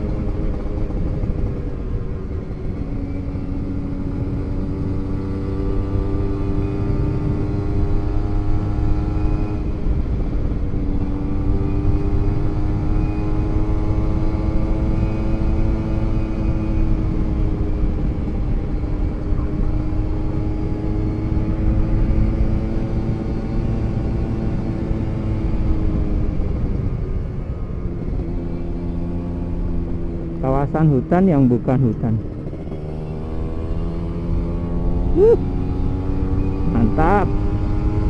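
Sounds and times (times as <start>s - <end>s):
two-stroke motorcycle engine cruising: 0.0s - 38.0s
wind rumble on microphone: 0.0s - 38.0s.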